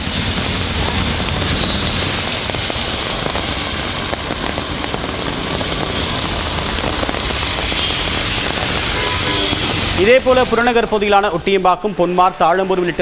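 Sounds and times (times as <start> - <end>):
heavy rain hissing: 0.0 - 13.0
vehicles passing on wet road: 0.0 - 13.0.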